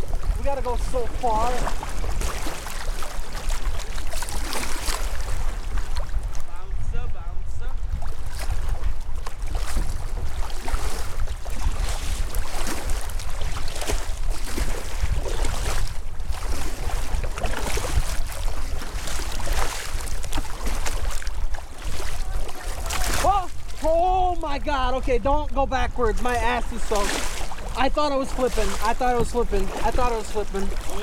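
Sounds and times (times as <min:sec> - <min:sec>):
paddle splashing in water: 0:00.0 - 0:06.6, 0:07.8 - 0:31.0
wind buffeting microphone: 0:00.0 - 0:31.0.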